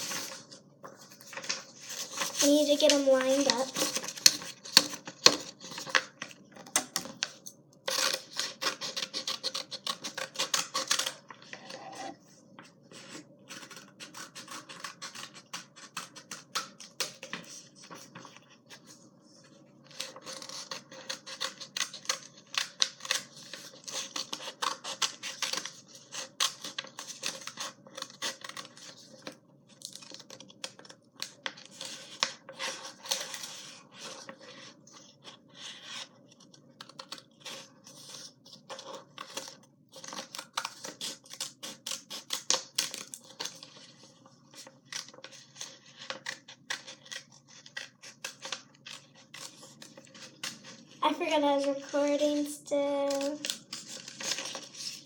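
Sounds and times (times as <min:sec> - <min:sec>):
paper scratching and rustling: 0:00.0 - 0:06.0, 0:12.9 - 0:29.3, 0:29.9 - 0:52.4, 0:53.0 - 0:55.0.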